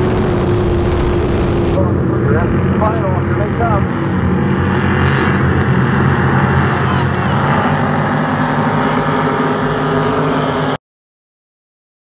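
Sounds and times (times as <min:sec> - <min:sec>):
race boat engines blaring: 0:00.0 - 0:10.8.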